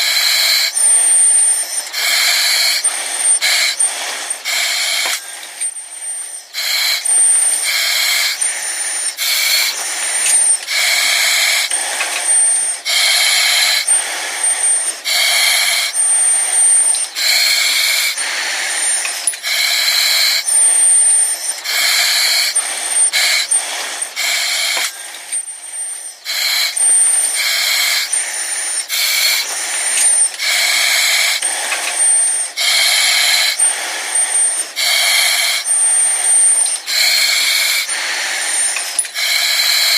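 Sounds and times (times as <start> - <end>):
breathing through oxygen mask: 0.0 - 39.9.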